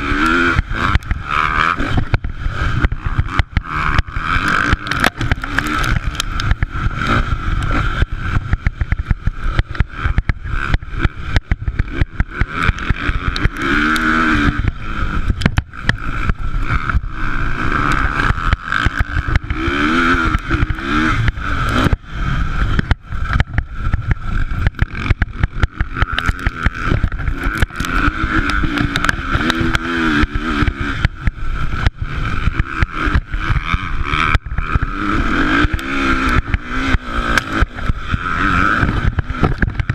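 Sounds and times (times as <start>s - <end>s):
motocross bike engines revving: 0.0s - 39.9s
rough crackling noise: 0.0s - 39.9s.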